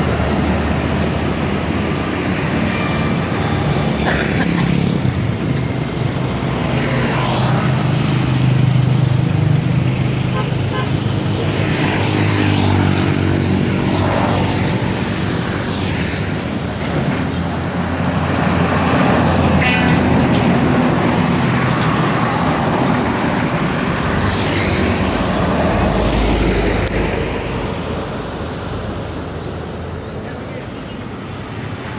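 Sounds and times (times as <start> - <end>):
buses and trucks passing: 0.0 - 31.9.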